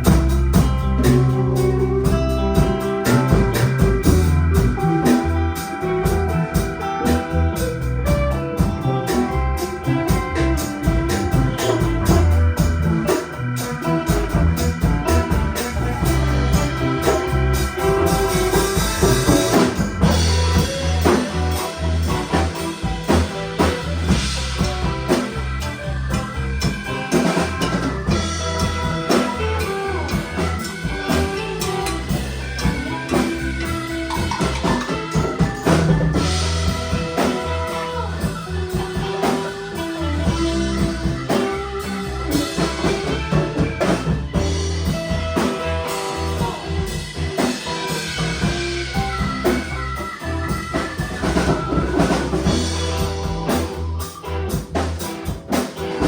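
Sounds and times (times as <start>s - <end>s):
band playing instrumental: 0.0s - 56.0s
drum kit beat: 0.0s - 56.0s.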